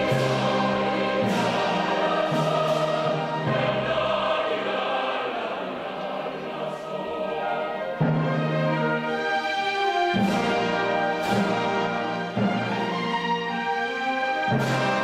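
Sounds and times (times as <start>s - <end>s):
choir singing with instruments: 0.0s - 15.0s.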